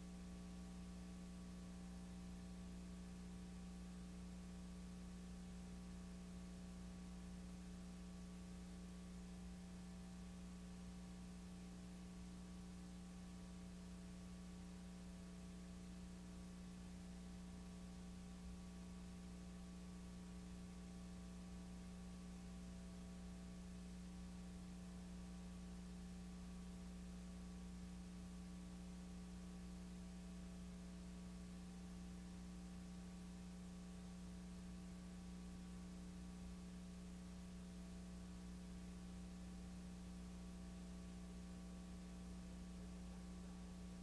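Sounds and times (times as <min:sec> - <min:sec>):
faint mains hum: 0:00.0 - 0:44.0.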